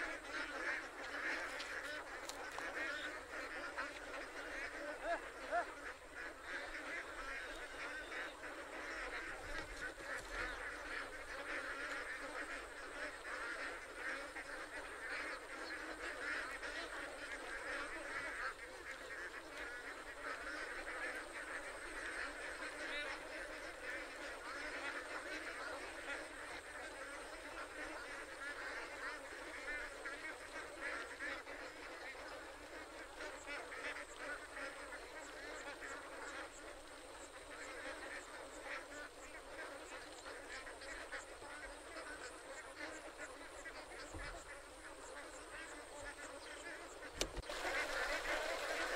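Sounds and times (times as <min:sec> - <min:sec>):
ducks quacking: 0:00.0 - 0:48.9.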